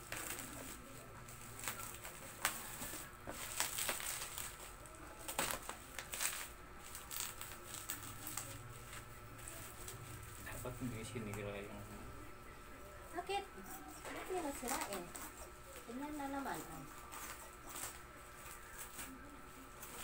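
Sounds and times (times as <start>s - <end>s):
plastic wrapping crinkling: 0.0s - 11.6s, 14.0s - 20.0s.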